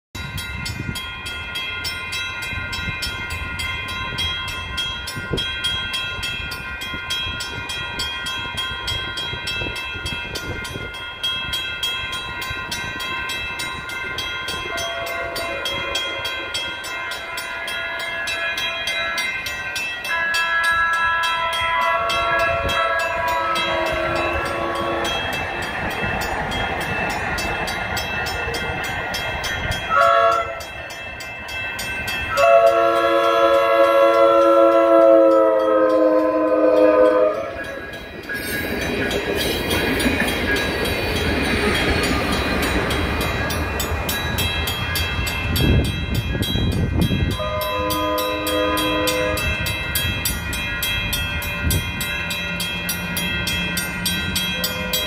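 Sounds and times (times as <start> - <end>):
train approaching on rails: 0.2 - 55.0.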